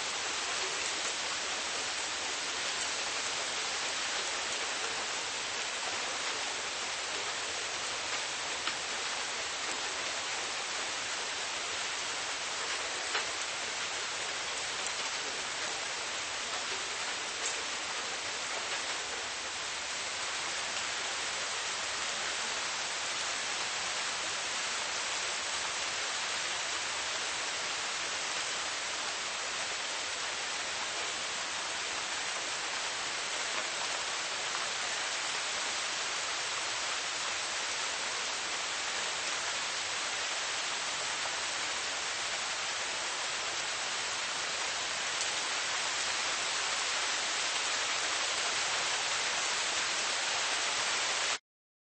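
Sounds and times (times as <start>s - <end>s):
steady rain falling: 0.0s - 51.4s.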